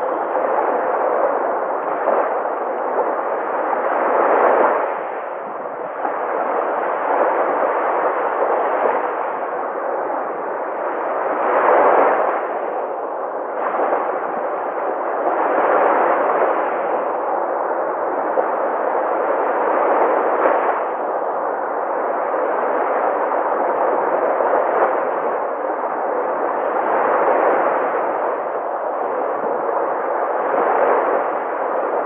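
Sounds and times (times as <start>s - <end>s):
sea waves breaking: 0.0s - 32.0s.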